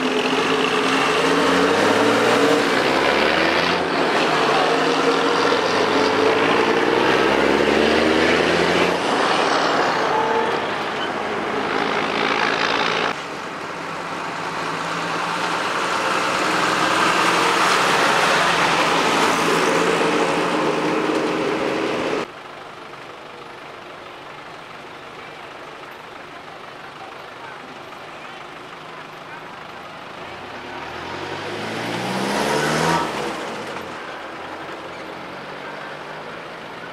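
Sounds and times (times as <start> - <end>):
truck engine passing: 0.0 - 22.3, 26.4 - 36.9
distant traffic noise: 0.0 - 36.9
truck engine approaching: 0.0 - 36.9.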